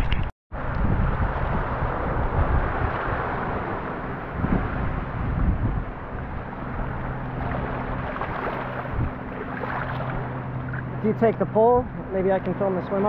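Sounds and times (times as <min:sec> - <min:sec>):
wind buffeting microphone: 0:00.0 - 0:13.0
small waves washing onto shore: 0:00.7 - 0:13.0.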